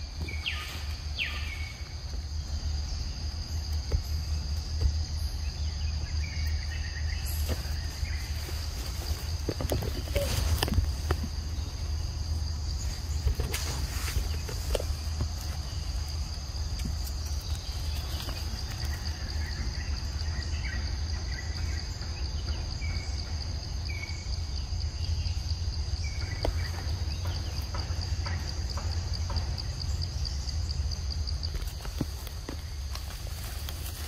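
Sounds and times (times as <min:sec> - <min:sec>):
constant low rumble: 0:00.0 - 0:34.0
high-pitched insect chorus: 0:00.0 - 0:34.0.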